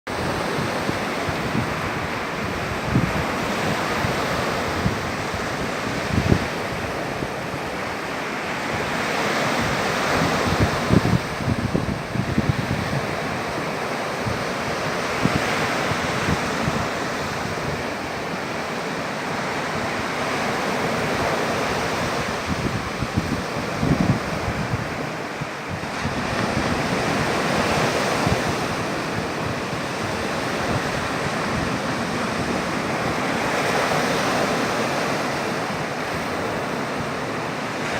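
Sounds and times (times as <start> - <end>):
sea surf washing onto shore: 0.1 - 37.9
wind buffeting microphone: 0.1 - 37.9.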